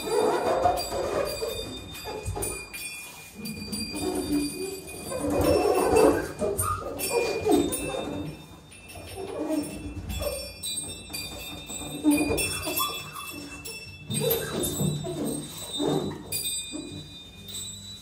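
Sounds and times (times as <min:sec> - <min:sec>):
faint high ringing tones: 0:00.0 - 0:18.0.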